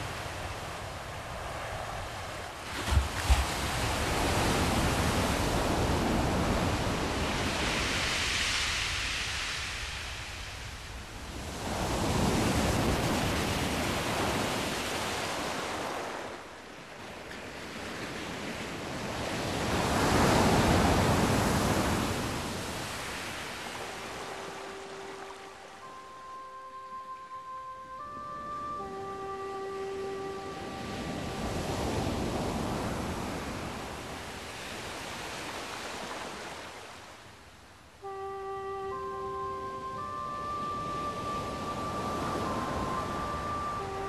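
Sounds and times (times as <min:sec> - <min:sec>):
ocean waves breaking over rocks: 0:00.0 - 0:44.0.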